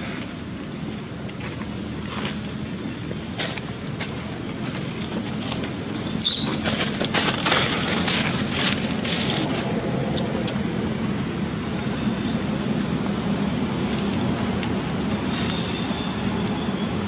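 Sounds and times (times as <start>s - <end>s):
dry leaves rustling and crunching: 0.0s - 10.0s, 11.9s - 16.5s.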